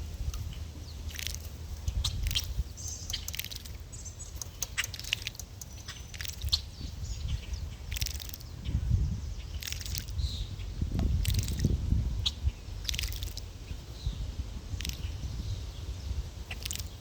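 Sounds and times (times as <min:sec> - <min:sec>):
birds chirping: 0:00.0 - 0:17.0
steady low rumble: 0:00.0 - 0:17.0.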